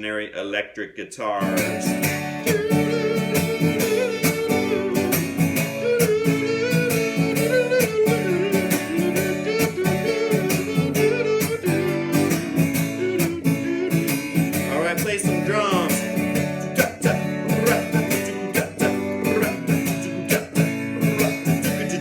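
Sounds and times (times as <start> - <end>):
electric guitar solo: 1.4 - 22.0.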